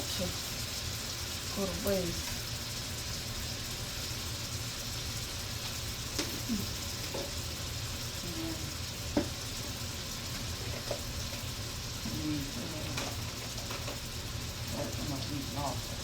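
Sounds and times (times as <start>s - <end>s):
vegetables sizzling in frying pan: 0.0s - 16.0s.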